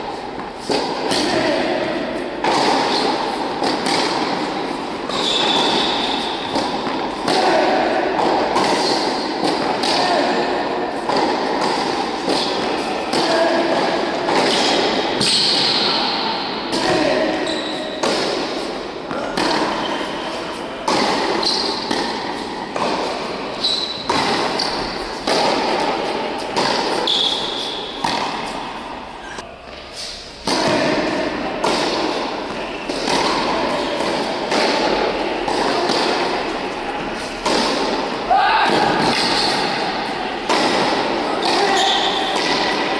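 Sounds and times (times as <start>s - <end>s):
tennis balls bouncing on hard court: 0.0s - 29.0s, 29.6s - 42.9s
tennis balls hit by rackets: 0.0s - 42.9s.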